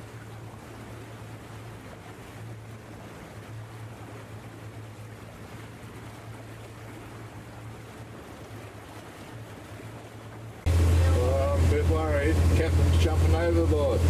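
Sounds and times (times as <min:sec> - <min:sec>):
boat engine droning: 0:00.0 - 0:14.0
wind and water hiss: 0:00.0 - 0:14.0.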